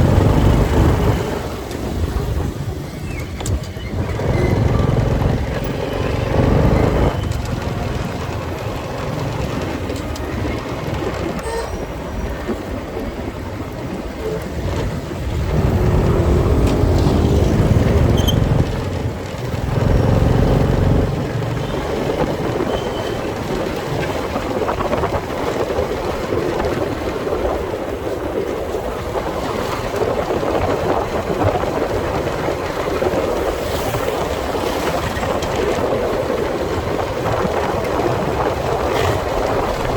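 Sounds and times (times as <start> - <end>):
motorcycle engine and road noise: 0.0 - 39.9
wind rumble on microphone: 0.0 - 39.9.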